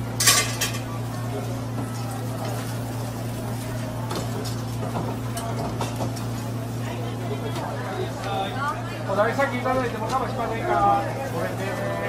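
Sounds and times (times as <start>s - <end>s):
fish grilling sizzle: 0.0s - 8.2s, 9.1s - 12.0s.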